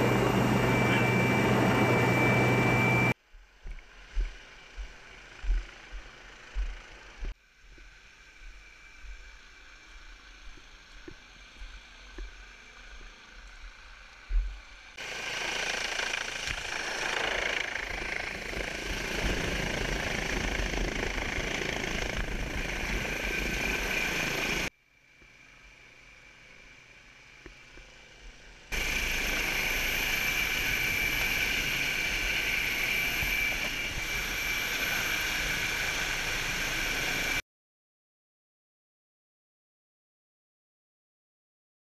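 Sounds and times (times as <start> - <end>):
helicopter rotor and turbine noise: 0.0 - 37.4.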